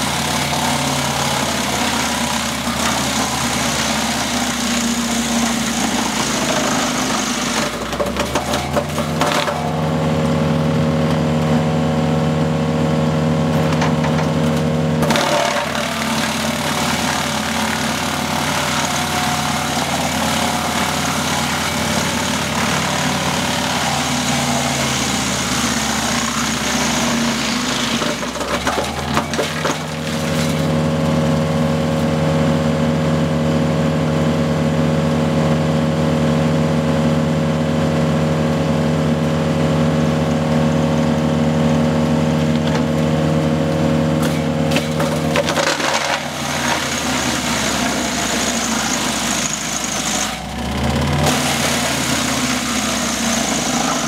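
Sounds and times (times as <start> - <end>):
wood chipper grinding a log: 0.0 - 54.0
wood chipper running: 0.0 - 54.0.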